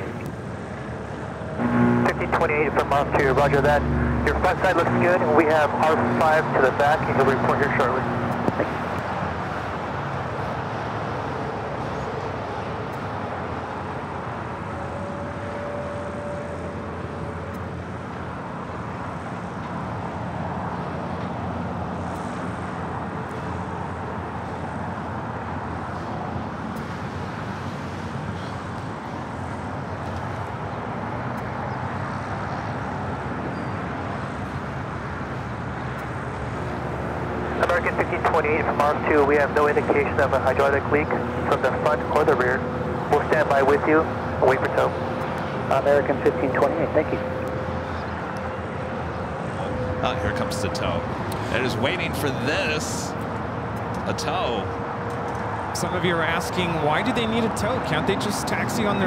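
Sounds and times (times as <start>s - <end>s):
rumble of engines and vehicles: 0.0s - 59.0s.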